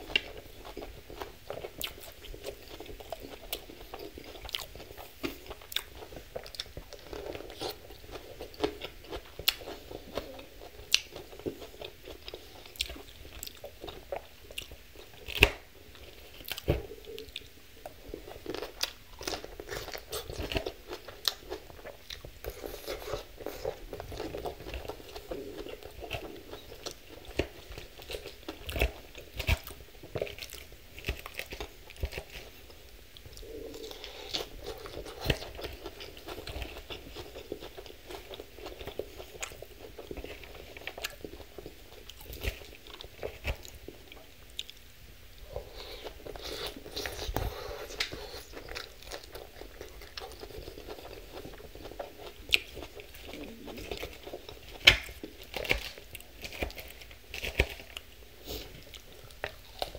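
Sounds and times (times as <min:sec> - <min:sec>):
chewing and crunching lettuce: 0:00.0 - 0:59.9.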